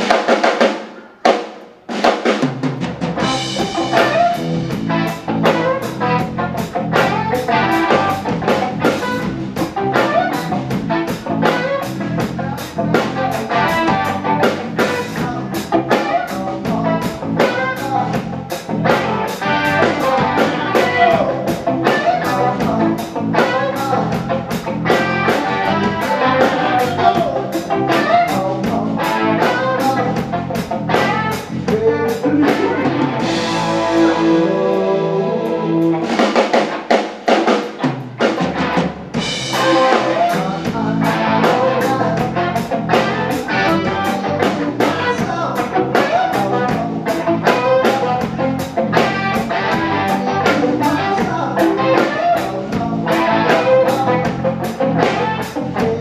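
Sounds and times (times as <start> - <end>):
drum-kit beat: 0.0 - 34.9, 35.5 - 56.0
electric guitars: 0.0 - 56.0.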